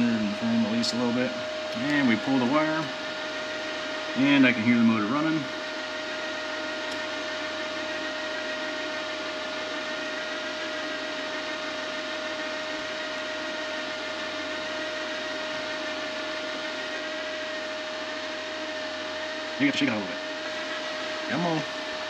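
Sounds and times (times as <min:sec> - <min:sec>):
wire-feed motor whining: 0:00.0 - 0:22.0.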